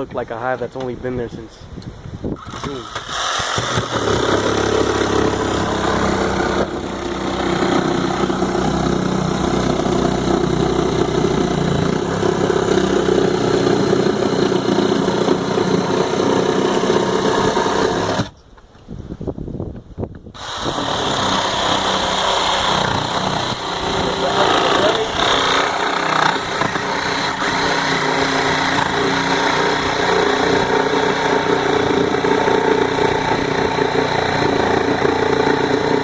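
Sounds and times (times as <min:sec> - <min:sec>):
motor humming: 0:02.4 - 0:18.3, 0:20.4 - 0:36.0.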